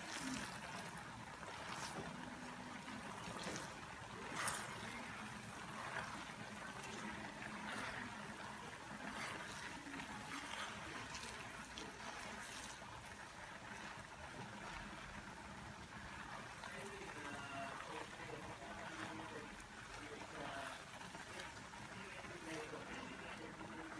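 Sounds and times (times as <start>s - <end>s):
coconut milk bubbling in a pan: 0.0s - 23.9s
spatula stirring: 0.0s - 23.9s.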